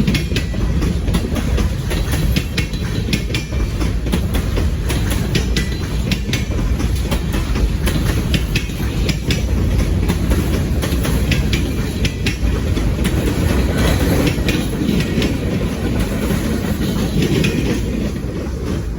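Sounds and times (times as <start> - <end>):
train cars rumbling past: 0.0 - 18.9
wheels clacking over rail joints: 0.0 - 18.9.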